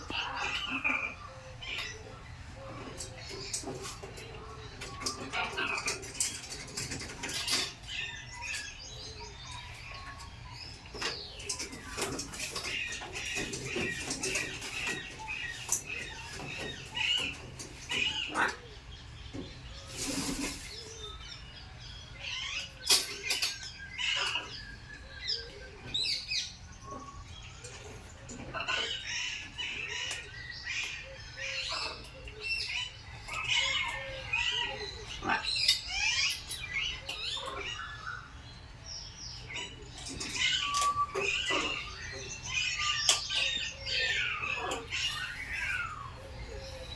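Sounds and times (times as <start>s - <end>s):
parrots chirping and calling: 0.0s - 46.9s.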